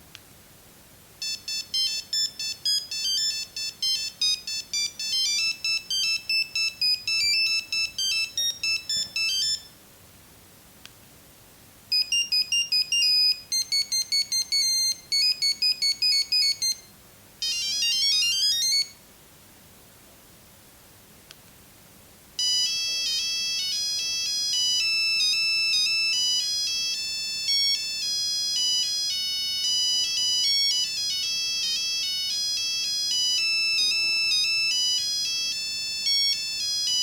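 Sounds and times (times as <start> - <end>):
monophonic phone ringtone: 1.2 - 9.7, 11.9 - 19.0, 22.4 - 37.0.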